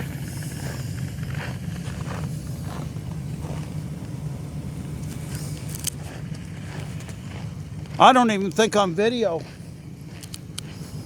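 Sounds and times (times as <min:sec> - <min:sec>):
pickup truck idling: 0:00.0 - 0:11.0.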